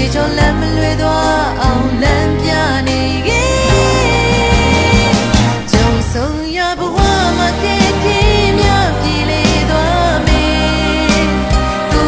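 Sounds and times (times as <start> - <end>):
band accompaniment: 0.0 - 12.0
woman singing a slow song: 0.0 - 12.0.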